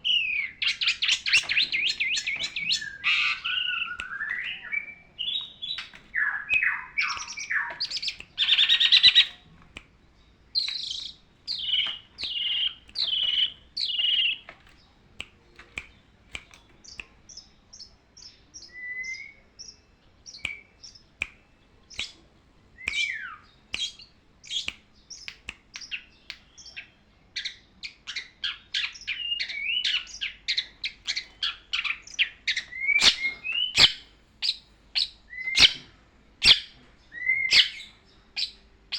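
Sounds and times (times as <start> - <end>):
bird singing: 0.0 - 22.2, 22.8 - 38.9.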